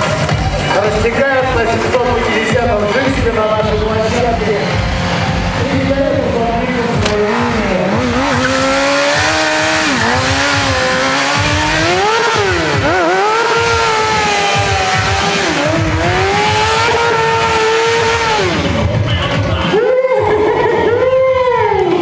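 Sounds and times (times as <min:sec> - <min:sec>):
motorcycle engine revving high: 0:00.8 - 0:19.8.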